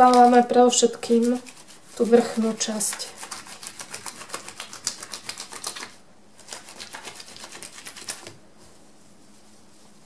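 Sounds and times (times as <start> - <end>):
wet felt rubbing on bubble wrap: 0.0 - 10.0.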